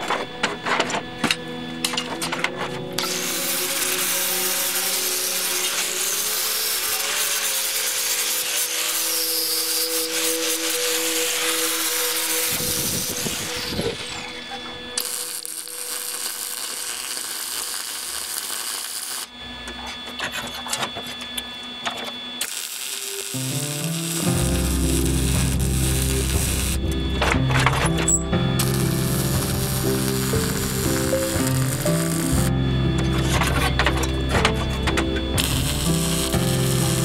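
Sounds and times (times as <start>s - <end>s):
angle grinder grinding steel: 0.0s - 21.0s, 22.0s - 37.0s
welding crackle: 3.0s - 20.0s, 21.8s - 37.0s.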